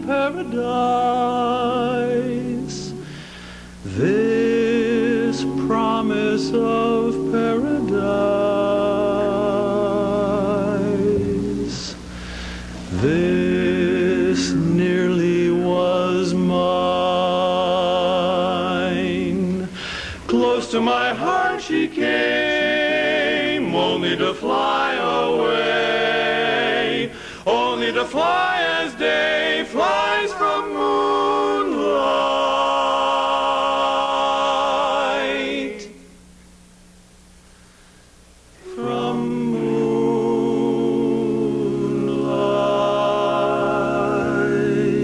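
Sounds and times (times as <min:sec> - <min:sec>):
male quartet singing in harmony: 0:00.0 - 0:36.1, 0:38.6 - 0:45.0.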